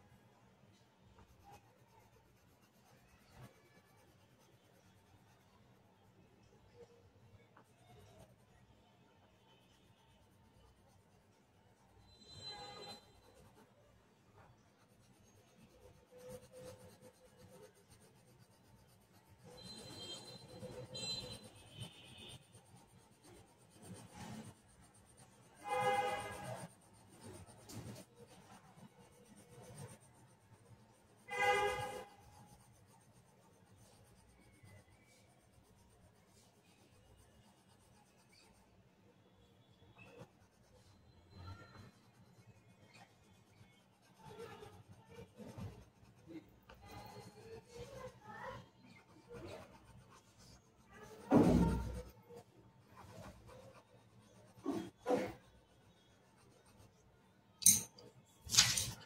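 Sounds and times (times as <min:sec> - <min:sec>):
pencil scratching on paper: 0:00.7 - 0:59.0.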